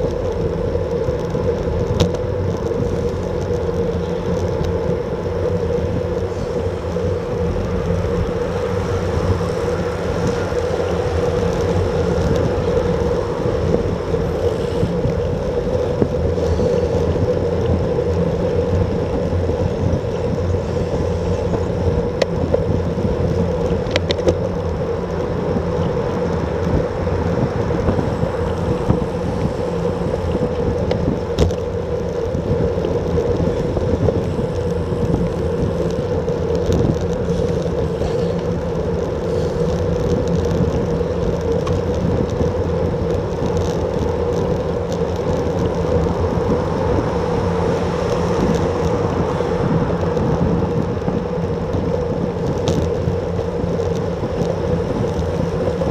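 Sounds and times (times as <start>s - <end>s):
wind and road noise: 0.0s - 55.9s.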